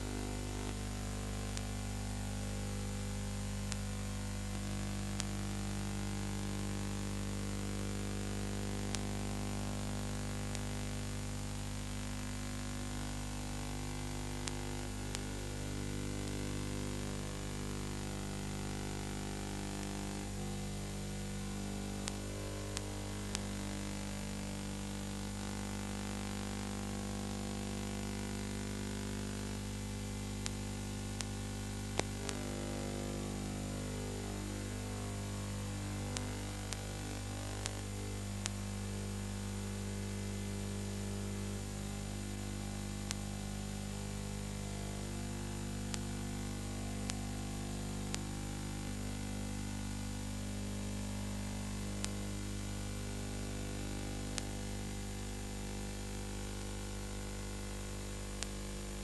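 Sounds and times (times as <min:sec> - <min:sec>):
electrical hum with hiss: 0:00.0 - 0:59.0.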